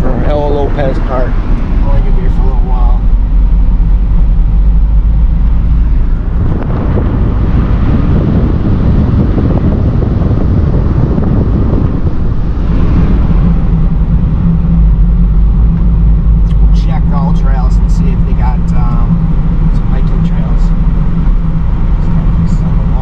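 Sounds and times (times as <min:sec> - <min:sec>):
car engine humming: 0:00.0 - 0:23.0
rushing noise: 0:00.0 - 0:23.0.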